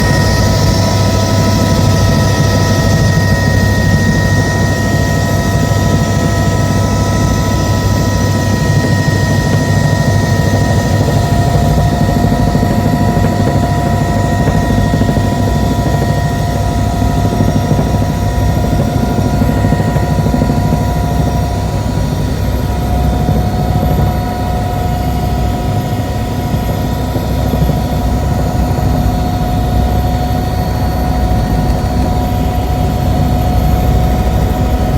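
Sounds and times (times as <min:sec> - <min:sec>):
helicopter rotor chop: 0:00.0 - 0:34.9
high turbine whine: 0:00.0 - 0:34.9.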